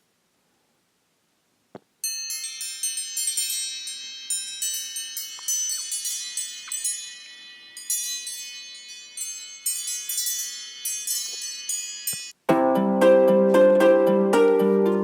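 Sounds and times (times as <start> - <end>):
chime-like ringtone melody: 2.0 - 15.0.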